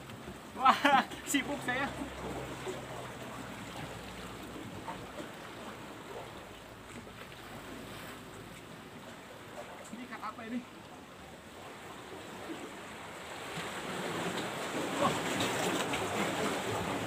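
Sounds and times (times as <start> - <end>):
calm sea water washing: 0.0 - 17.0.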